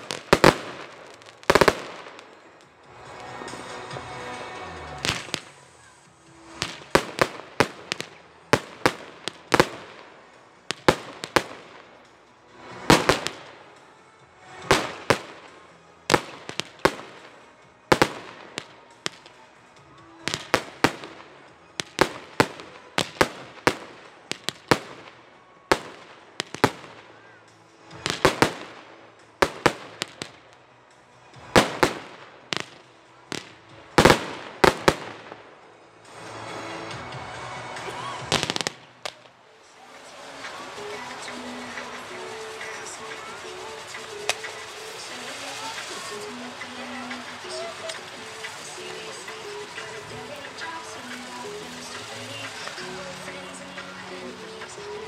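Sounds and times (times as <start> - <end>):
fireworks bangs with echo: 0.0 - 13.8, 14.5 - 19.5, 20.2 - 30.6, 31.4 - 39.3, 40.0 - 55.0.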